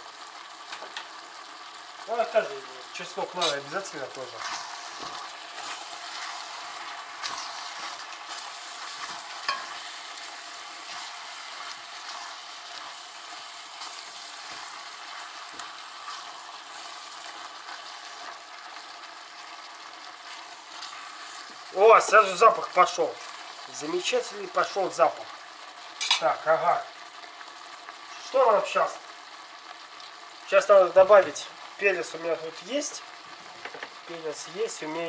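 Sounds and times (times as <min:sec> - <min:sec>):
food sizzling in a pot: 0:00.0 - 0:35.0.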